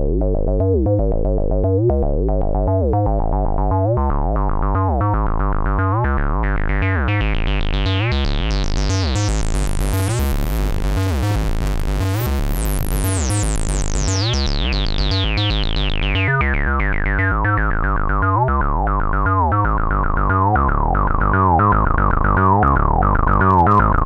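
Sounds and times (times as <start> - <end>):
squelchy synthesizer bassline: 0.0 - 24.0.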